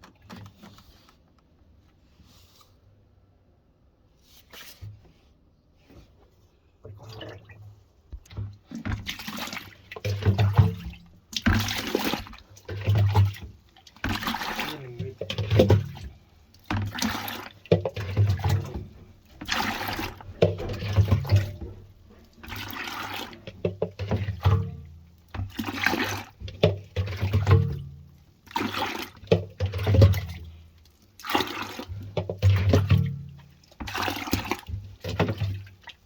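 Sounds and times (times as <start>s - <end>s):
water sloshing in washing machine: 0.0s - 1.3s, 5.8s - 36.0s
washing machine motor hum: 6.9s - 35.9s.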